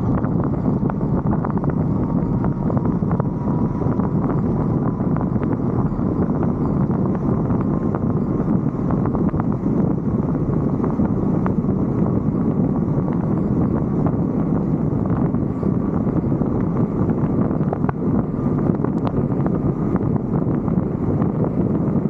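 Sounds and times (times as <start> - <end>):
road noise: 0.0 - 22.0
wind rush: 0.0 - 22.0.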